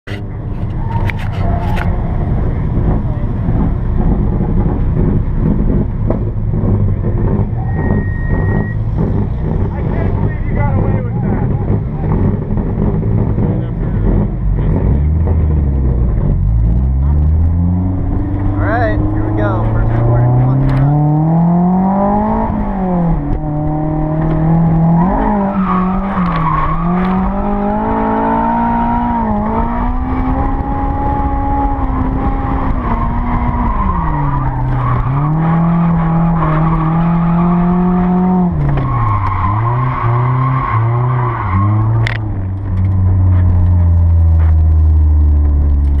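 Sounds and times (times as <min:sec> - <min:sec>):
car engine revving: 0:00.1 - 0:46.0.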